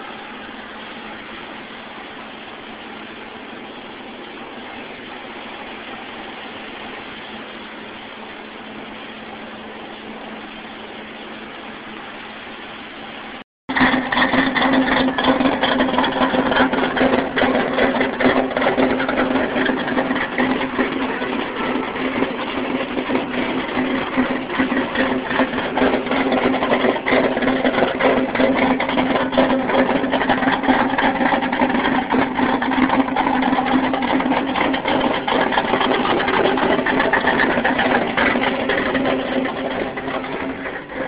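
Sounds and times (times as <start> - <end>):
engine running with mechanical rattle: 0.0 - 41.0.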